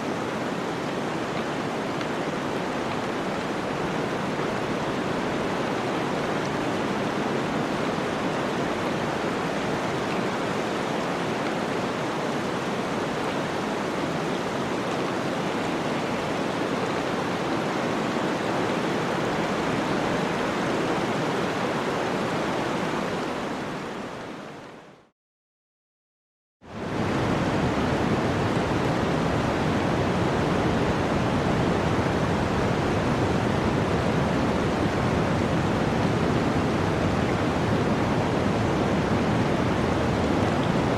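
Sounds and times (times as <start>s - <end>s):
running water rushing: 0.0s - 25.1s, 26.7s - 40.9s.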